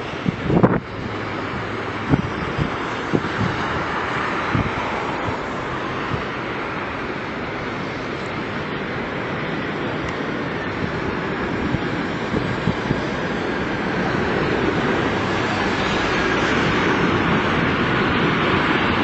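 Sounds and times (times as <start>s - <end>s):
jet engines rushing: 0.0s - 19.0s
wind on microphone: 0.0s - 19.0s.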